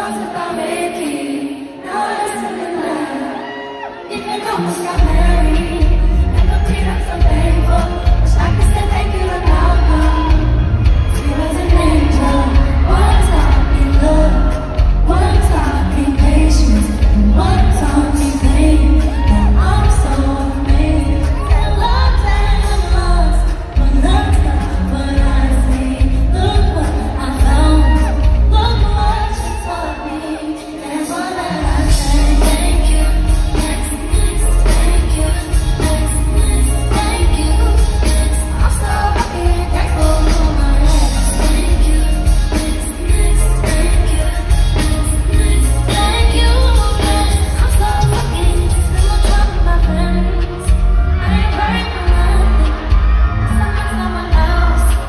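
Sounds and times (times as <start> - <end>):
person singing: 0.0 - 55.0.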